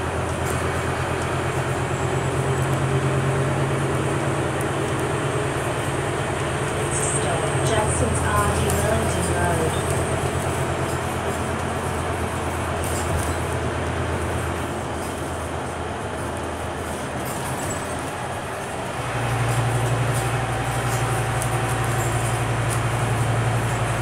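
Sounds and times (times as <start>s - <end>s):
bus diesel engine: 0.0s - 24.0s
road noise: 0.0s - 24.0s.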